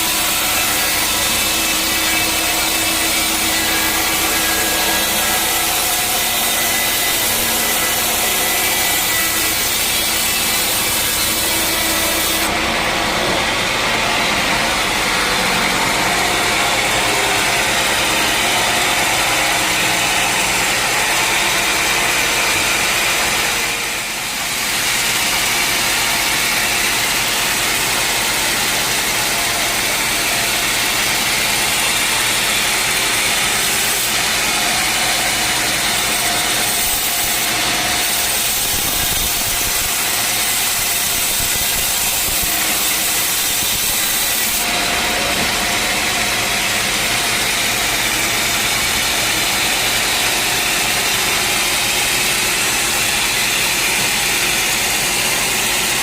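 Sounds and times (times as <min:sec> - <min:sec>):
saw cutting through log: 0:00.0 - 0:56.0
sawmill machine running: 0:00.0 - 0:56.0.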